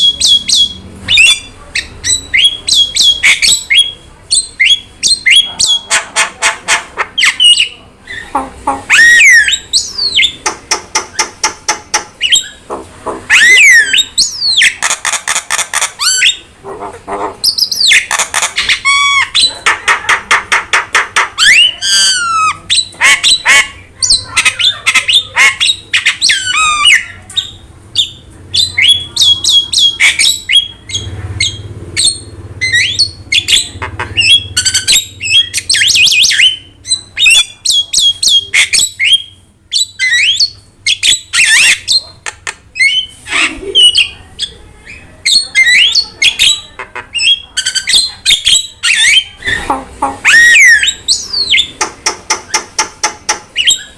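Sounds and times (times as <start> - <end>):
starling chattering and whistling: 0.0 - 53.9.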